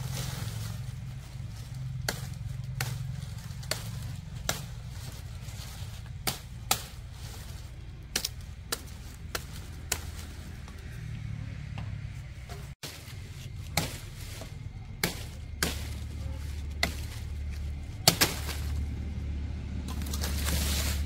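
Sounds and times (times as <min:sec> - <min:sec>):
blade chopping: 0:00.0 - 0:10.8, 0:12.8 - 0:19.0
steady low hum: 0:00.0 - 0:21.0.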